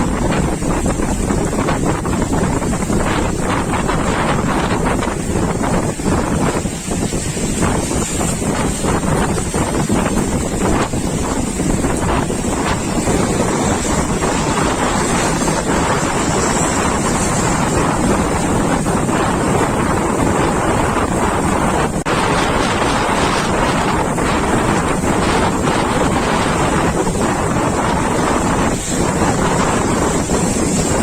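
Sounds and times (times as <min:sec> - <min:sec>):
heavy surf: 0:00.0 - 0:31.0
wind buffeting microphone: 0:00.0 - 0:31.0.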